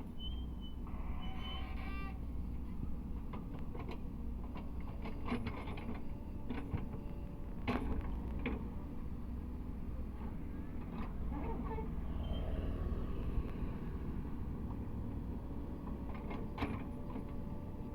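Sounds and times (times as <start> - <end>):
excavator diesel engine running: 2.2 - 17.9.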